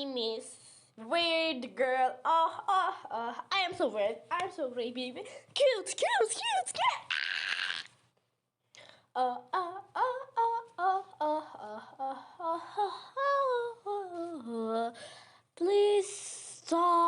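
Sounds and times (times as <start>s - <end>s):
girl singing wordless tune: 0.0s - 7.1s, 8.8s - 17.0s.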